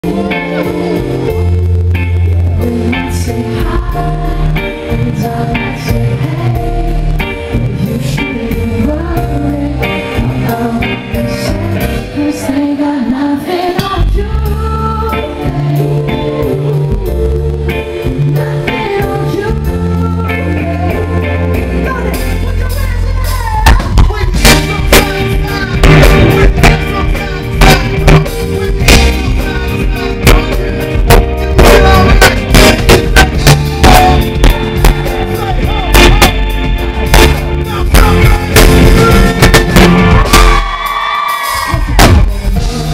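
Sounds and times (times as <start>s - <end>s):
man singing lead vocal: 0.0s - 40.9s, 41.5s - 42.9s
live rock band playing: 0.0s - 42.9s.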